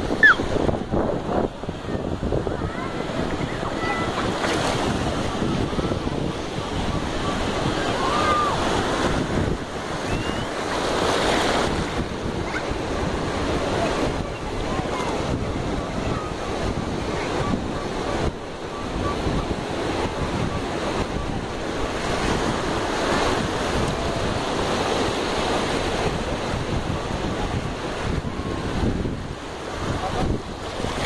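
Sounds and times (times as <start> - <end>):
wind buffeting microphone: 0.0 - 31.0
small surf washing: 0.1 - 31.0.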